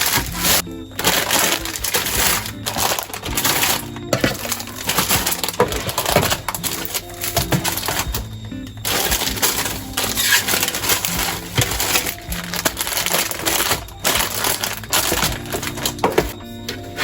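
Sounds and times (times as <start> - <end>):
food packaging crackling: 0.0 - 17.0.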